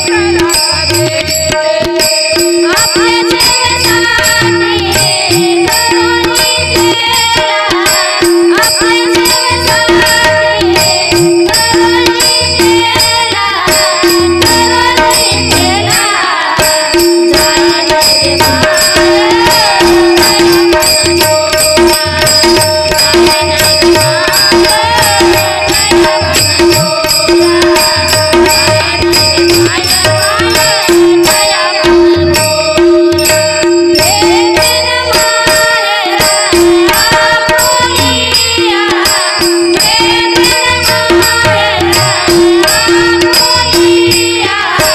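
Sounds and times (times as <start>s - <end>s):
devotional song: 0.0s - 44.9s
drum and cymbal rhythm: 0.0s - 44.9s.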